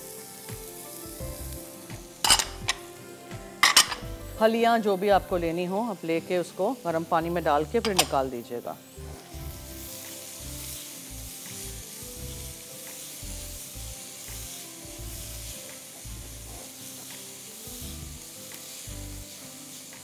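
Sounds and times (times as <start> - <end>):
food sizzling in oil: 0.0 - 20.0
soft background music: 0.0 - 20.0.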